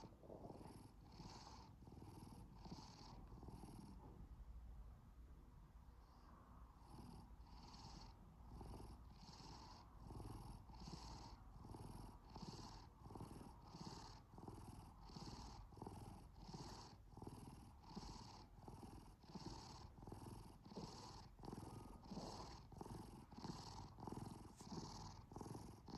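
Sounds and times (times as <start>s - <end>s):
cat purring: 0.0s - 4.4s, 5.8s - 25.9s.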